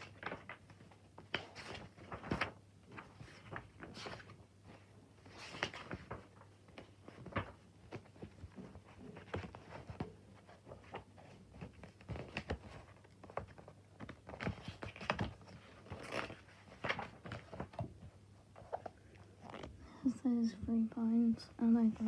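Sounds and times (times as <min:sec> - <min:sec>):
paper rustling: 0:00.0 - 0:19.8.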